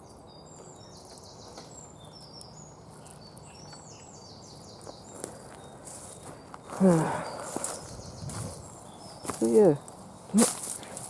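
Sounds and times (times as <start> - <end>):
small songbird singing: 0.0 - 11.0.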